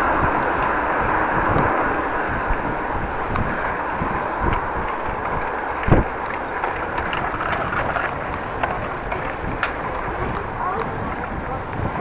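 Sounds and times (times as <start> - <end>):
bike rolling on road: 0.0 - 12.0
wind on microphone: 0.0 - 12.0.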